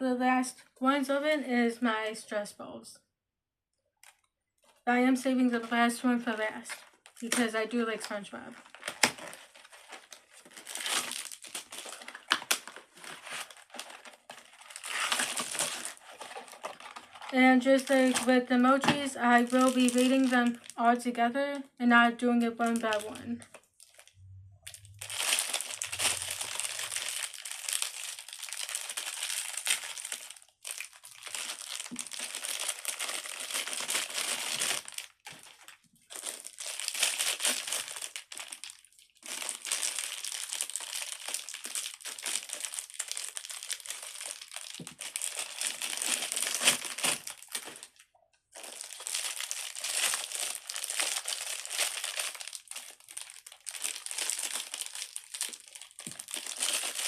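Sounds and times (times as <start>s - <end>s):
plastic crinkling: 5.6s - 20.8s, 22.6s - 57.0s.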